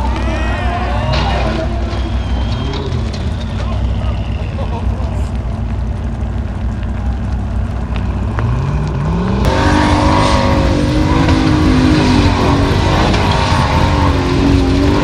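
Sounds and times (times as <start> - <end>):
buggy engine revving hard: 0.0 - 5.4, 8.0 - 15.0
high wavering buggy engine: 0.0 - 15.0.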